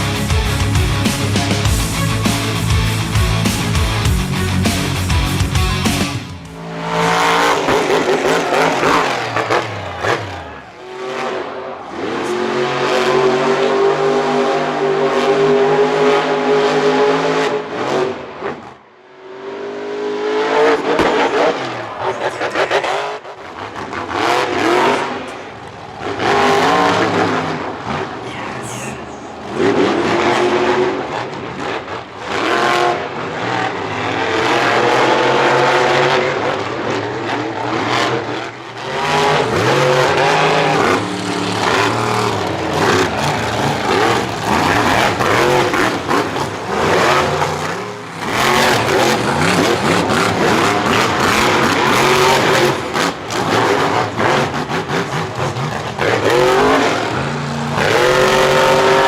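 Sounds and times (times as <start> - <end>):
monster truck engines revving: 0.0 - 59.0.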